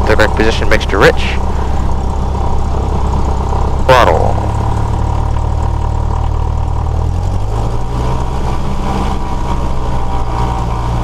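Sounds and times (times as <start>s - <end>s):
airplane engine running: 0.0s - 11.0s.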